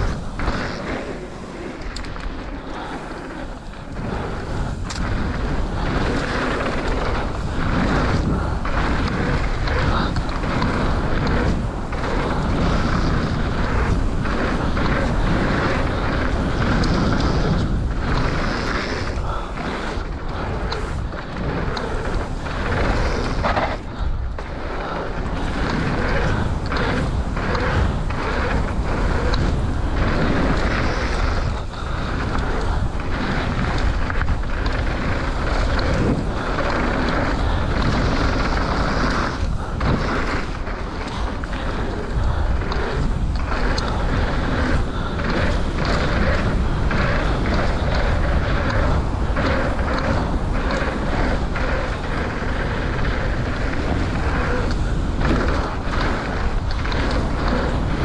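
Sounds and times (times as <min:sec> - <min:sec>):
bike knocking and rattling: 0:00.0 - 0:58.0
tyres rolling on gravel: 0:00.0 - 0:58.0
wind buffeting microphone: 0:00.0 - 0:58.0.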